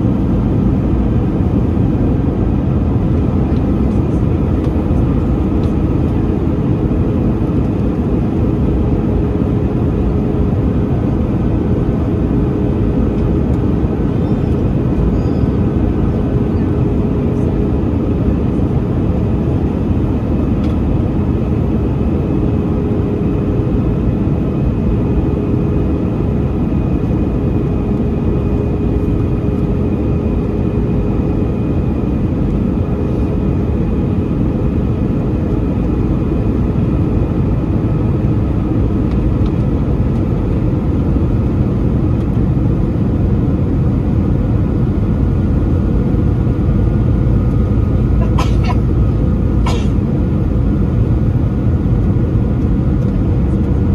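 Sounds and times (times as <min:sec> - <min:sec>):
aircraft cabin engine roar: 0:00.0 - 0:53.9
faint constant hum: 0:00.0 - 0:53.9.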